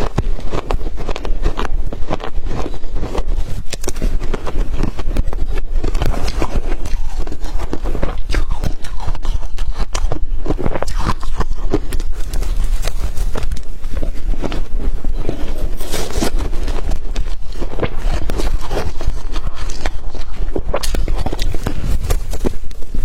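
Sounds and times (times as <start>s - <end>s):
ice crunching being chewed: 0.0s - 23.0s.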